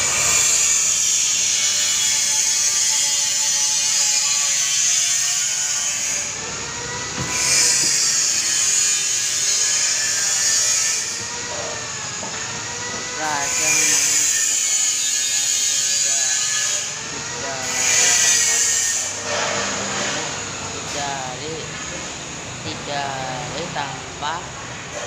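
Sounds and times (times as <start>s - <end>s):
high-pitched whirring machine: 0.0s - 25.0s.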